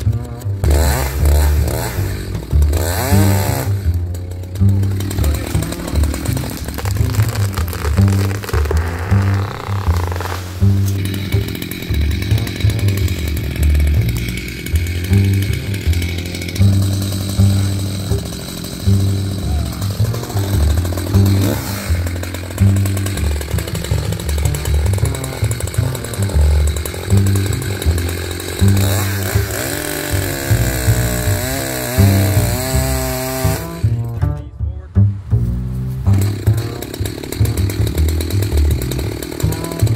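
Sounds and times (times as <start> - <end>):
gas chainsaw running: 0.0 - 34.2, 35.9 - 39.9.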